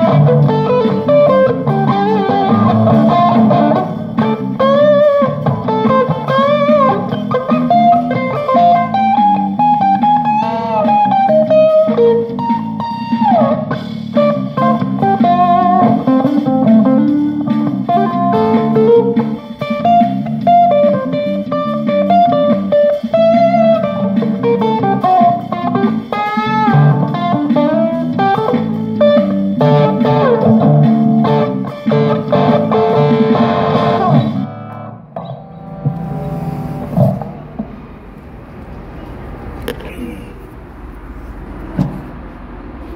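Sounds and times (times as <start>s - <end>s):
electric guitar lead line: 0.0s - 39.8s
guitar accompaniment: 0.0s - 40.2s.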